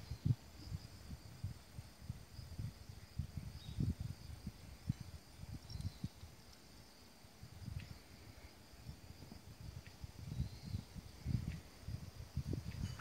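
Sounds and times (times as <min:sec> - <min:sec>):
insects chirring: 0:00.0 - 0:13.0
wind buffeting the microphone: 0:00.0 - 0:13.0.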